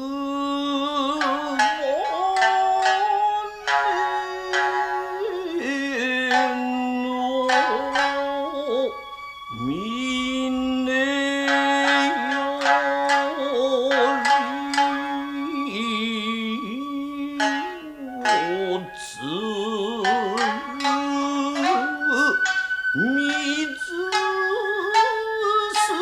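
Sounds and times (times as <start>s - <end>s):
plucked shamisen strokes: 0.0s - 26.0s
singer holding wavering notes: 0.0s - 26.0s.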